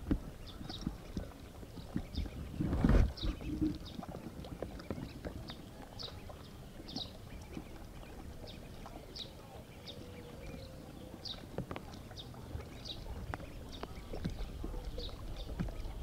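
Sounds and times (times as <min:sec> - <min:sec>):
water noise: 0:00.0 - 0:16.0
ducklings peeping: 0:00.4 - 0:16.0.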